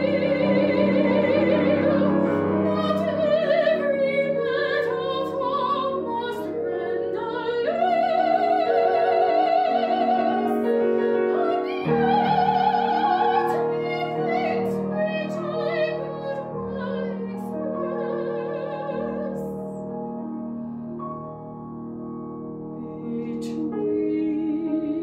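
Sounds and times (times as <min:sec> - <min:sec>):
woman singing operatically: 0:00.0 - 0:19.6, 0:22.8 - 0:25.0
piano accompaniment: 0:00.0 - 0:25.0.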